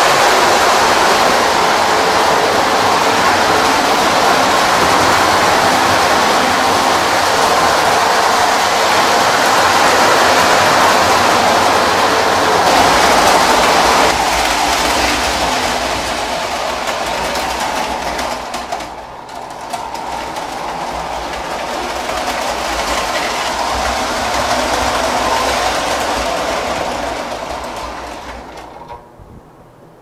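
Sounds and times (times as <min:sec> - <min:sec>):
model trains running on track: 0:00.0 - 0:29.2.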